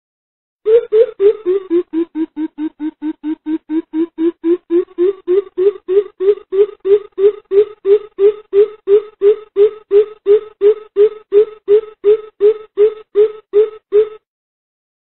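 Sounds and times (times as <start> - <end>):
bird giving low hoots: 0.7 - 14.2.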